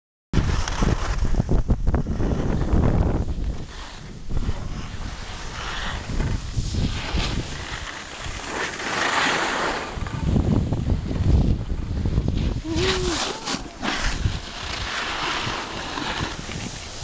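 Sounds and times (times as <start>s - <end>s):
wind buffeting microphone: 0.4s - 8.5s, 9.9s - 17.0s
snowboards scraping on snow: 0.4s - 17.0s.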